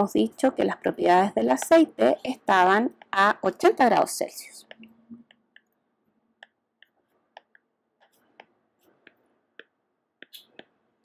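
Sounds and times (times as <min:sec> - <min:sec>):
stylus tapping on tablet screen: 0:01.4 - 0:10.9.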